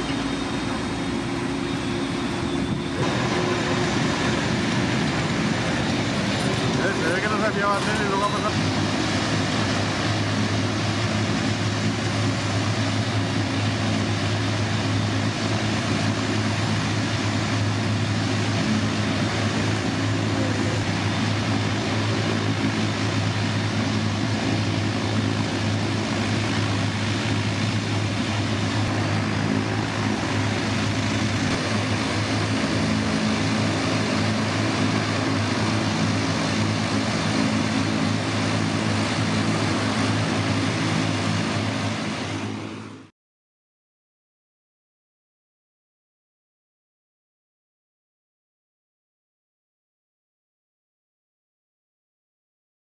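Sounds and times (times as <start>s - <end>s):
jet aircraft noise: 0.0s - 43.1s
low hum: 0.0s - 43.1s.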